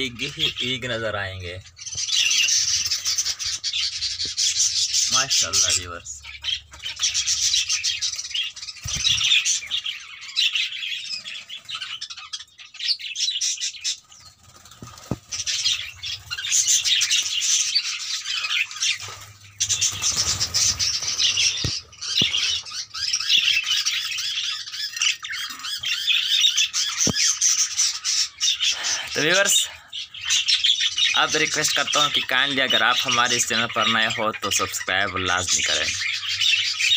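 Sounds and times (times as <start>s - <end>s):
budgerigars chattering: 0.0s - 36.9s.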